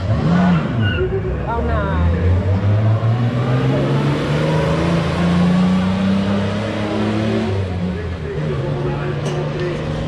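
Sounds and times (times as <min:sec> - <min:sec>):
racing car engine accelerating: 0:00.0 - 0:10.0.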